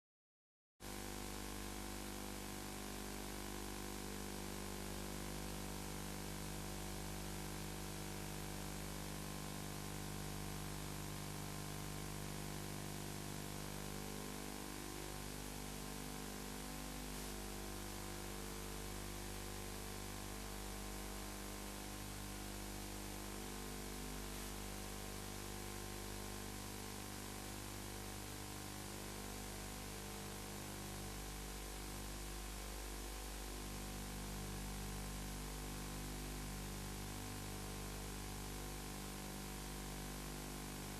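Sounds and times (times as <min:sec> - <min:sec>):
steady electrical hum: 0:03.8 - 0:38.6.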